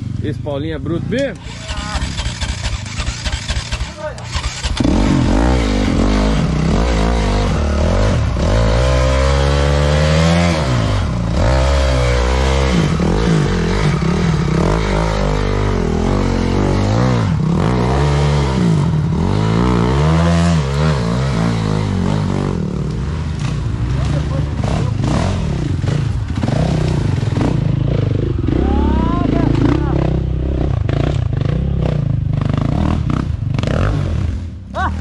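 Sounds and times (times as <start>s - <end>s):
dirt bike engine revving: 1.1s - 35.0s.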